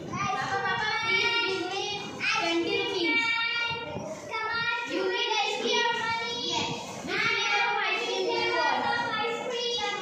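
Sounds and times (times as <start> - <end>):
children singing: 0.6 - 10.0.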